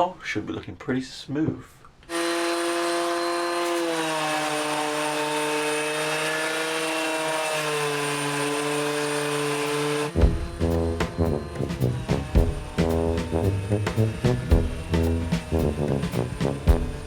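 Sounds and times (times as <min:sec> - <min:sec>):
electric sander whining: 0:02.1 - 0:17.0.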